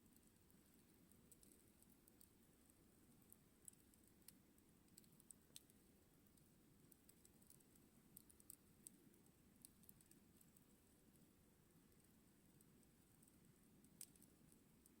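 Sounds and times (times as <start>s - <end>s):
campfire crackling: 0.1s - 11.2s, 11.8s - 15.0s.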